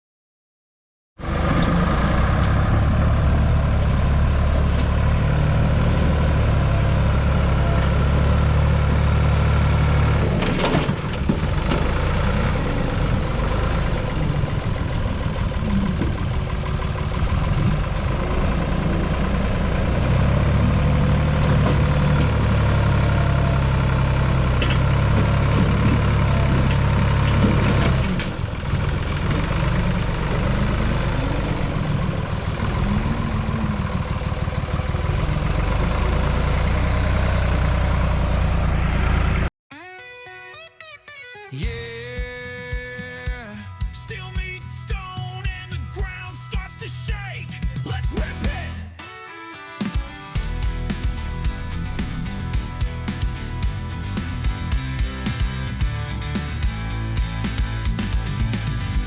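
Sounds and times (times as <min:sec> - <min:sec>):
diesel engine running: 0:01.2 - 0:39.5, 0:41.6 - 0:49.0, 0:50.3 - 0:59.0.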